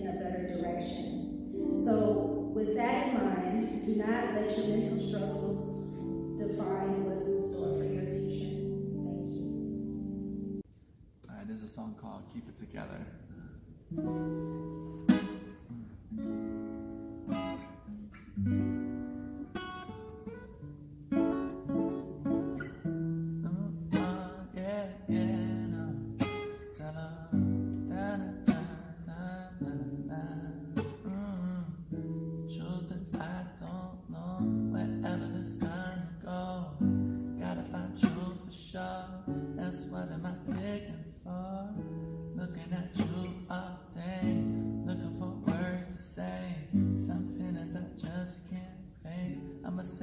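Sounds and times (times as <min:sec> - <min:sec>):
acoustic guitar strumming chords: 0:00.0 - 0:10.6, 0:13.9 - 0:50.0.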